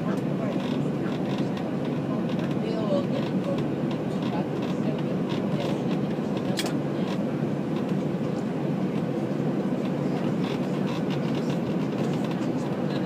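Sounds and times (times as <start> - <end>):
airliner cabin noise while taxiing: 0.0 - 13.0.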